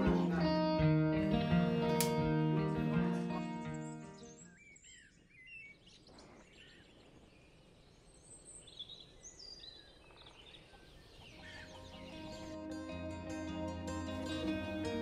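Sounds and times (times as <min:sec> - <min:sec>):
faint songbirds chirping: 0:00.0 - 0:15.0.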